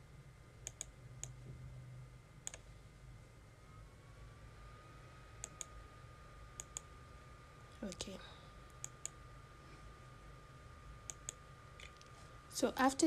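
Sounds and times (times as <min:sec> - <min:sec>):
faint electrical whine: 0:00.0 - 0:13.0.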